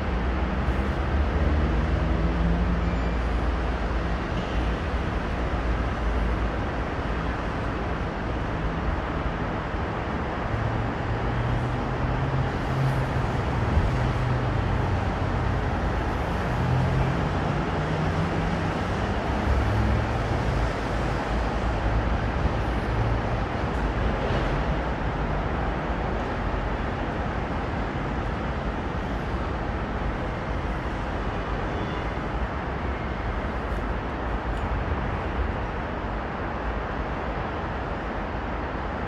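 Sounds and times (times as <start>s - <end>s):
road traffic passing: 0.0s - 39.0s.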